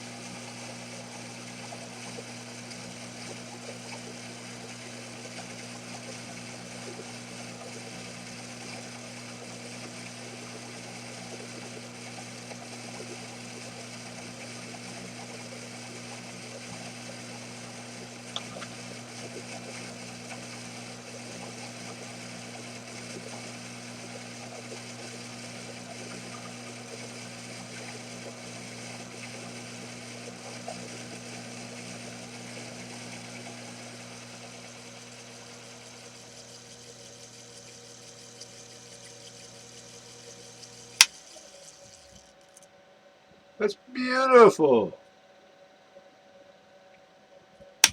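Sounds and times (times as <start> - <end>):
lathe motor humming: 0.0 - 42.6.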